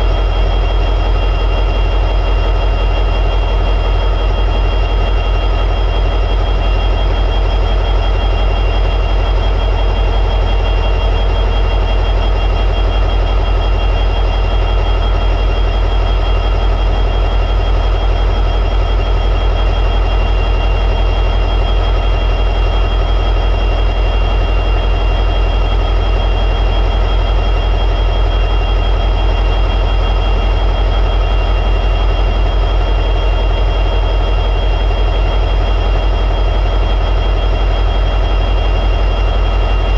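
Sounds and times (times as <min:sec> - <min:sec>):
constant high whine: 0:00.0 - 0:39.9
diesel locomotive engine idling: 0:00.0 - 0:39.9.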